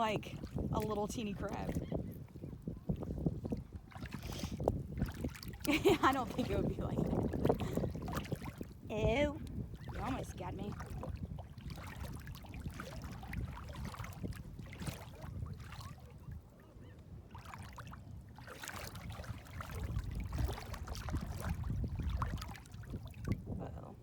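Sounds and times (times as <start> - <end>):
water lapping and trickling: 0.0 - 24.0.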